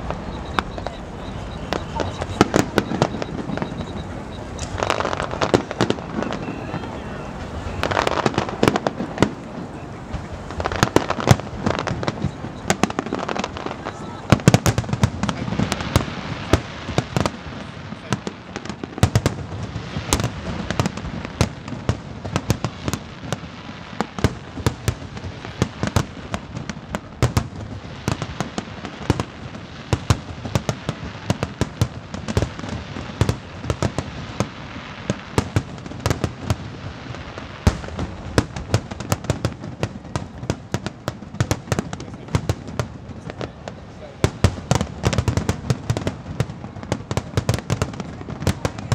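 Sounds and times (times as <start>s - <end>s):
firework shells bursting: 0.0s - 48.9s
low rumble of overlapping reports: 0.0s - 48.9s.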